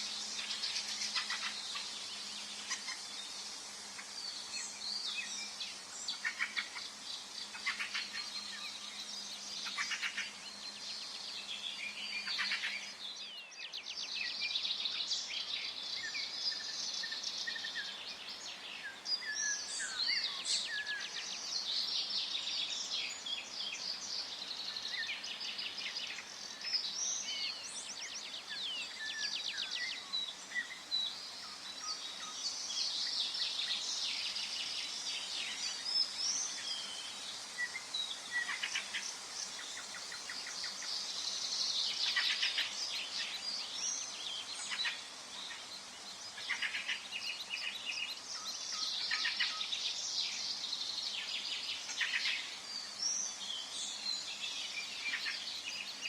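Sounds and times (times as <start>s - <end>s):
birds singing and calling: 0.0s - 56.0s
faint background hiss: 0.0s - 56.0s.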